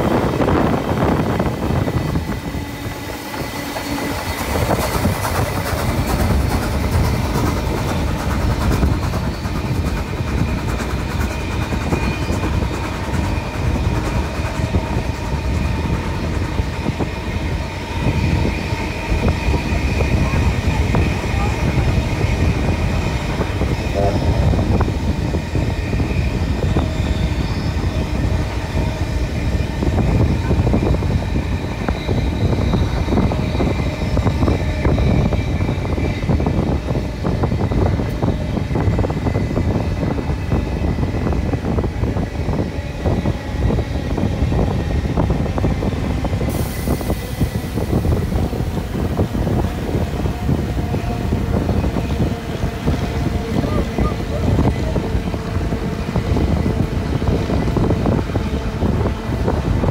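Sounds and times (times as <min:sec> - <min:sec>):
train wheels rumbling on rails: 0:00.0 - 0:59.9
wind: 0:00.0 - 0:59.9.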